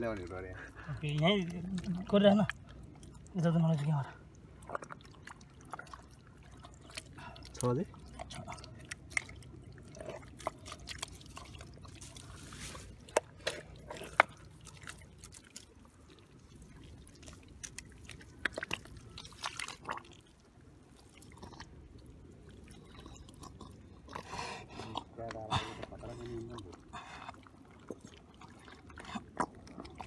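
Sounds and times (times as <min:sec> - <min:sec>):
muddy water splashing: 0:00.0 - 0:30.0.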